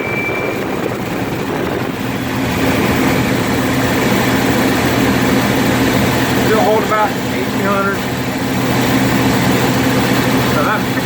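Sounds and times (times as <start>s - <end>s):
air-conditioning blower rushing: 0.0s - 11.0s
diesel truck engine running: 0.0s - 11.0s.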